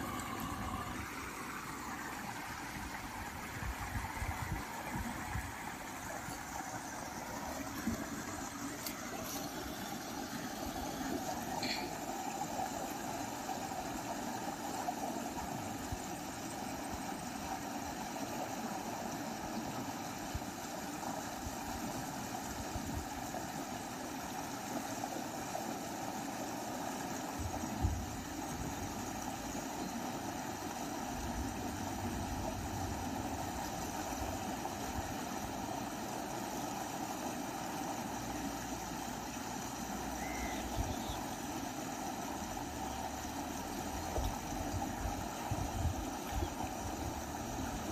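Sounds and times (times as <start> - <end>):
flowing canal water: 0.0 - 47.9.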